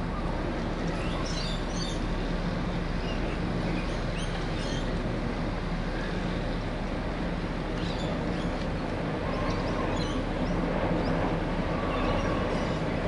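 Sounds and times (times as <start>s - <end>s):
distant traffic drone: 0.0s - 13.0s.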